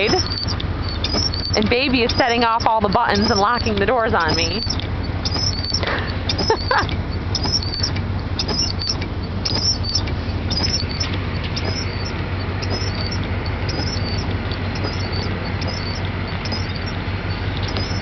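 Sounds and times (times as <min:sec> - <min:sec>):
engine droning: 0:00.0 - 0:18.0
high-pitched chirps: 0:00.0 - 0:18.0.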